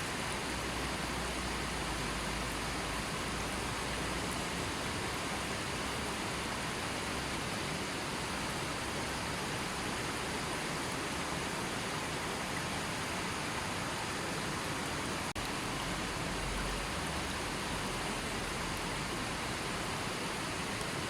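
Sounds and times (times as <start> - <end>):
river water flowing over stones: 0.0 - 21.0.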